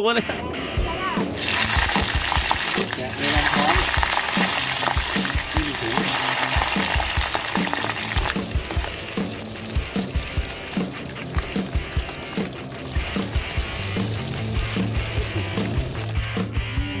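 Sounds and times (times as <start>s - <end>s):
prawns deep-frying in oil: 1.4s - 16.5s.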